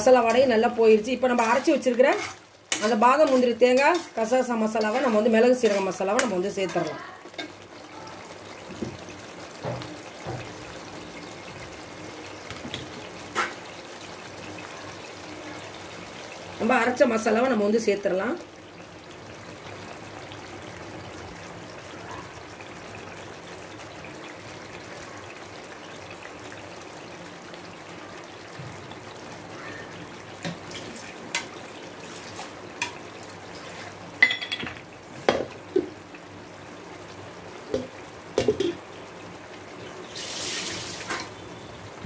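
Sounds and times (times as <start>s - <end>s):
gravy bubbling in a pan: 0.0s - 42.0s.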